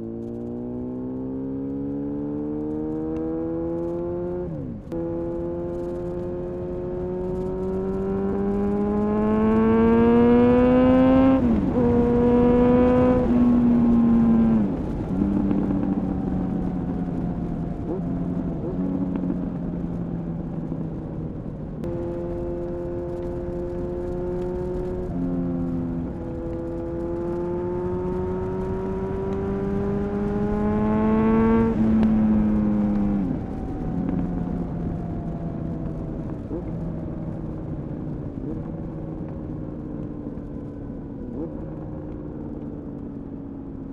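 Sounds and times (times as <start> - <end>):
motorcycle engine revving: 0.0 - 43.3.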